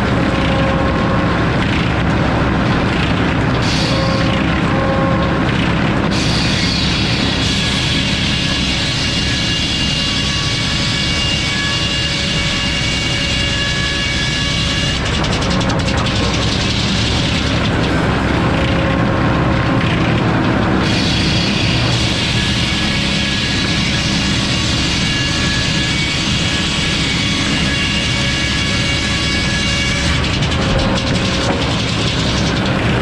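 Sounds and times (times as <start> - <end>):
saw cutting through log: 0.0 - 4.7, 5.4 - 33.0
engine hum: 0.0 - 33.0.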